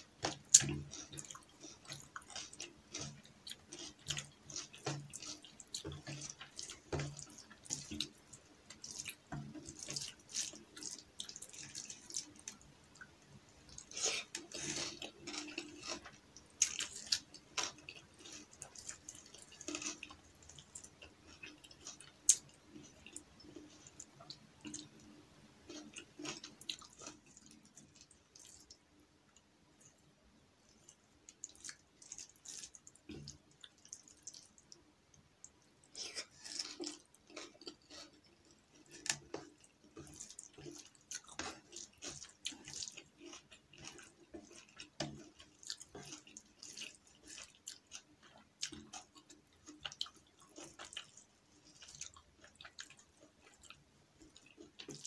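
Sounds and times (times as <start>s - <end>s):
fingers squishing rice and dal: 0.0s - 25.0s, 35.4s - 55.0s.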